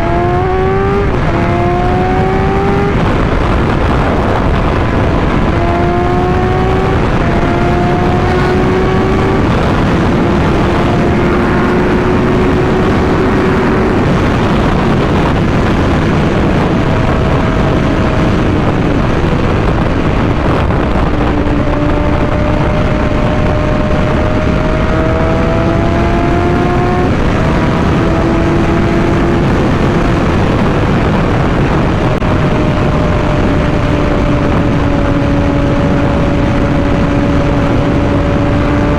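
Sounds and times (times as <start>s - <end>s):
motorcycle engine running: 0.0s - 38.9s
wind noise rushing: 0.0s - 38.9s.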